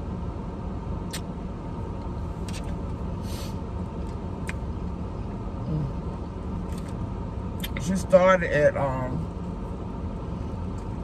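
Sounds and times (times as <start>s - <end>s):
low rumble inside car: 0.0s - 11.0s.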